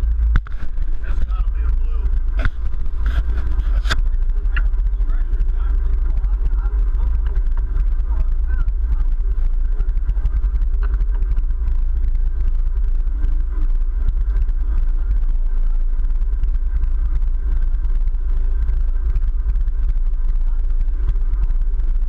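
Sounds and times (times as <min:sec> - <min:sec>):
boat engines rumbling: 0:00.0 - 0:22.0
wind buffeting microphone: 0:00.0 - 0:22.0.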